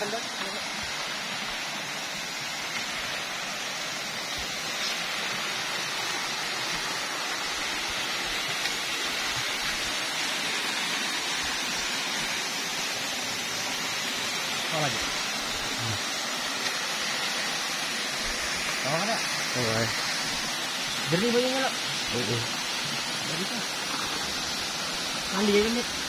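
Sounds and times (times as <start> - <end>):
waterfall and stream rushing: 0.0 - 26.0.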